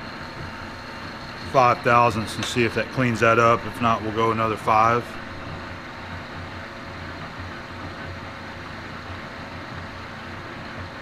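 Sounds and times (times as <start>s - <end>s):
metal lathe running: 0.0s - 11.0s.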